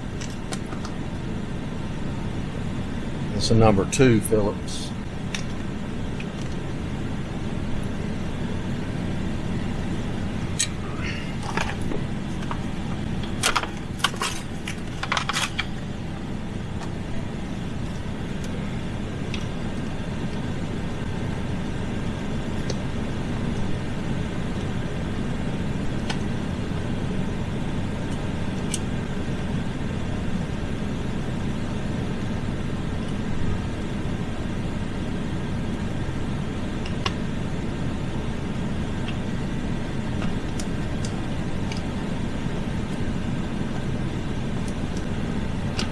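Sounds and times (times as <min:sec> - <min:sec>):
steady low rumble: 0:00.0 - 0:45.9.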